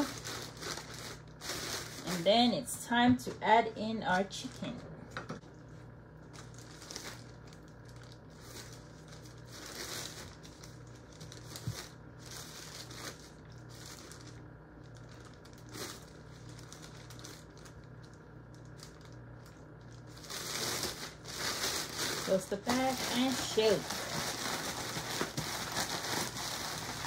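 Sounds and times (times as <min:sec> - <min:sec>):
plastic bag crinkling: 0:00.0 - 0:02.7, 0:04.2 - 0:27.0.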